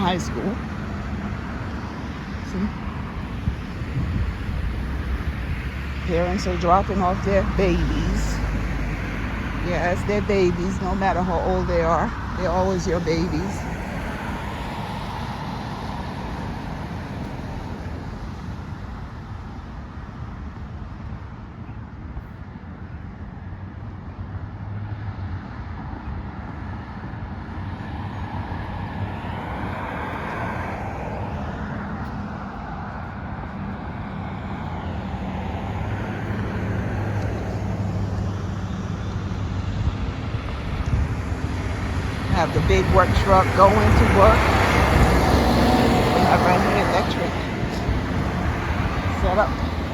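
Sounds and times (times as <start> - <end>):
cars driving past: 0.0 - 21.5, 23.1 - 49.9.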